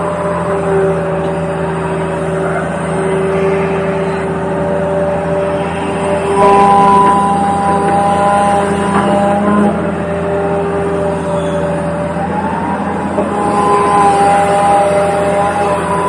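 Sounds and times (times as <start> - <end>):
motor whining tones: 0.0 - 16.0
toy excavator electric hum: 0.0 - 16.0.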